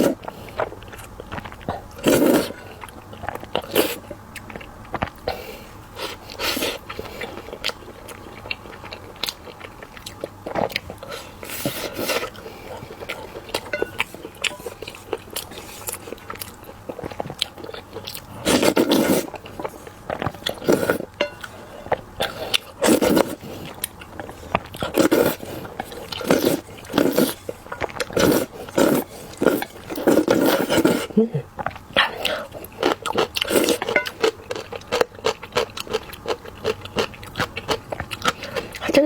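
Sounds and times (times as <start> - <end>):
person chewing food: 0.0 - 39.0.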